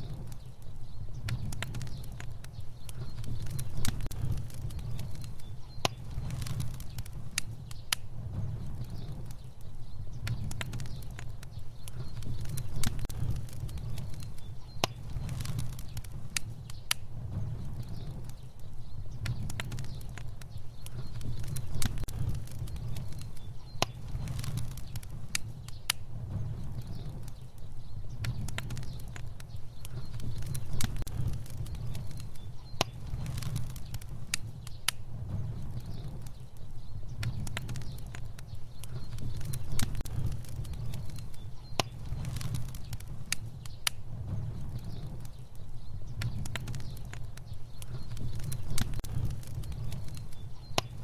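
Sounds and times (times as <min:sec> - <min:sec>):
fire burning with crackles: 0:00.0 - 0:51.0.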